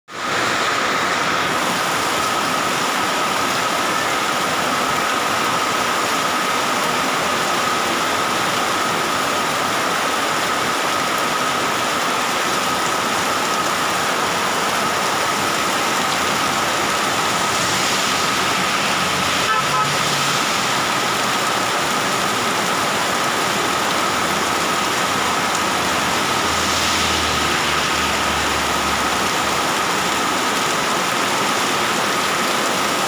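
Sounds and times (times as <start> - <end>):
heavy rain falling: 0.1 - 33.0.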